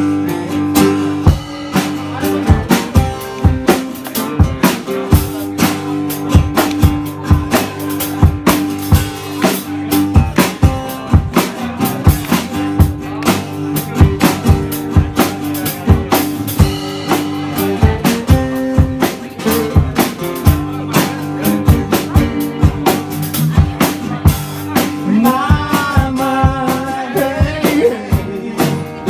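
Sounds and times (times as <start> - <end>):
drum kit beat: 0.0 - 29.0
strummed acoustic guitar: 0.0 - 29.0.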